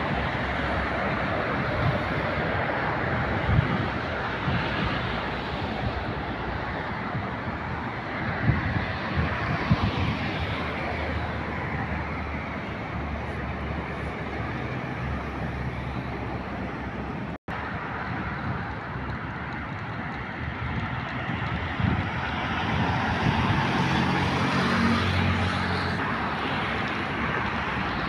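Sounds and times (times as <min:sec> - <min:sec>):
passing cars: 0:00.0 - 0:28.0
wind on microphone: 0:00.0 - 0:28.0.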